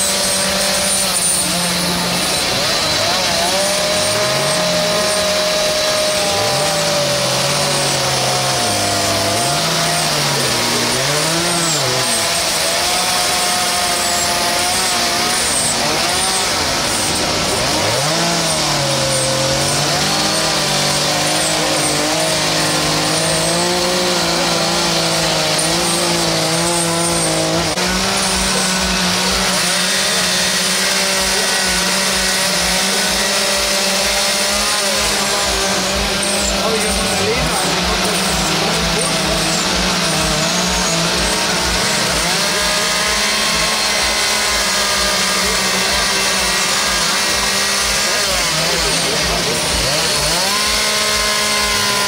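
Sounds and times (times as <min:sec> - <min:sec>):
chainsaws cutting wood: 0:00.0 - 0:52.0.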